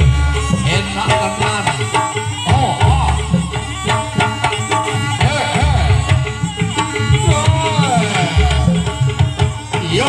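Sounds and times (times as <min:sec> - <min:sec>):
hand drums fast rhythm: 0:00.0 - 0:10.0.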